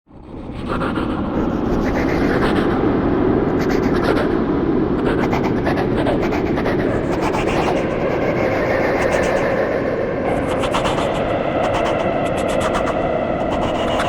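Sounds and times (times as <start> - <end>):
rumbling echoing noise: 0.1 - 14.0.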